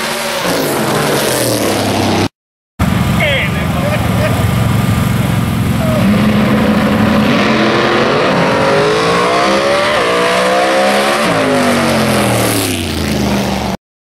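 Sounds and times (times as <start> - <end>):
racing car engine at full throttle: 0.0 - 13.8.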